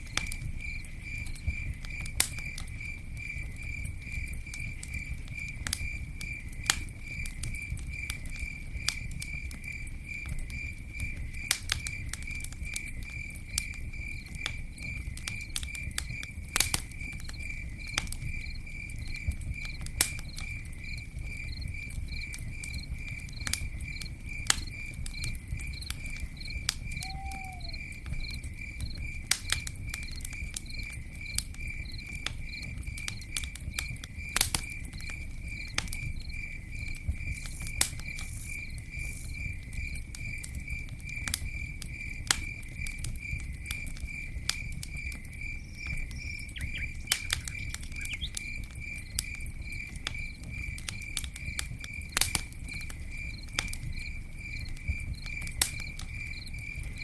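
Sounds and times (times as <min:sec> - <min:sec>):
campfire crackling: 0:00.0 - 0:57.0
insect chirping: 0:00.0 - 0:57.0.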